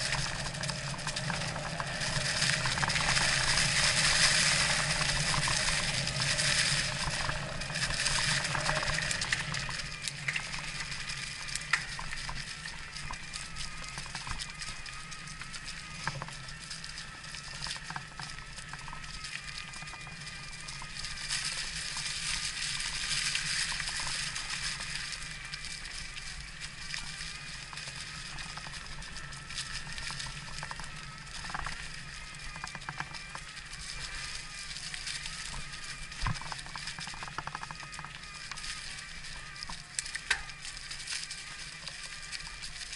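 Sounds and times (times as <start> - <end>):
bike tyre noise on trail: 0.0 - 42.9
electric motor whine: 0.0 - 42.9.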